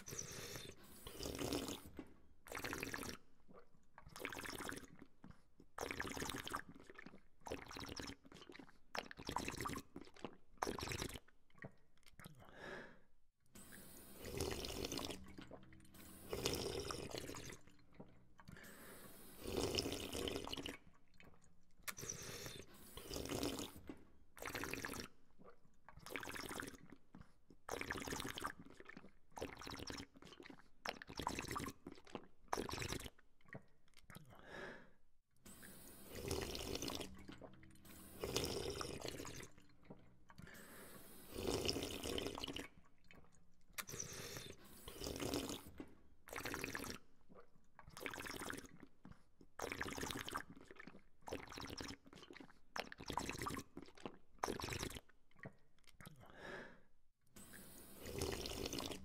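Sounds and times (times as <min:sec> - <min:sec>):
person sipping water: 0:00.0 - 0:59.0.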